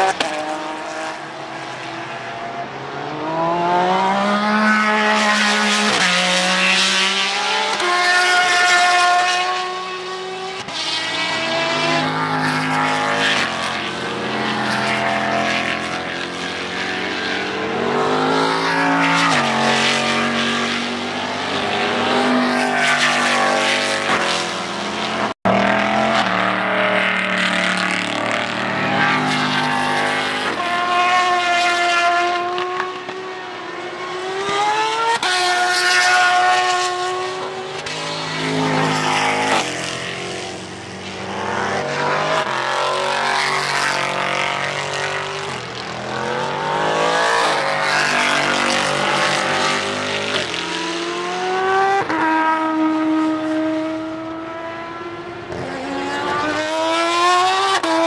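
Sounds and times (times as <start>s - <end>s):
racing cars passing at full throttle: 0.0s - 58.0s.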